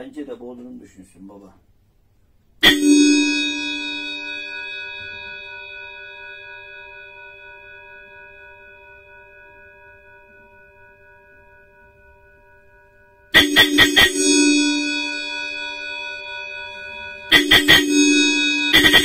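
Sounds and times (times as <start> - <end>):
electric bell ringing: 2.6 - 19.0.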